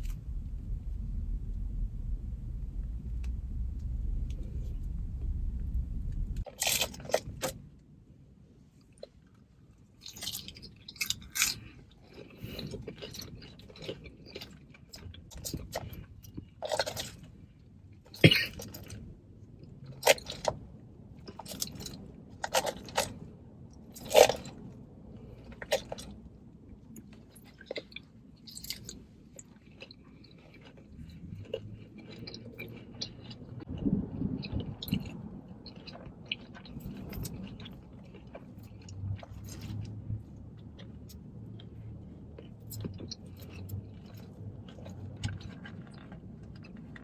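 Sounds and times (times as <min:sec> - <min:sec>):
person chewing salad: 0:08.8 - 0:47.0.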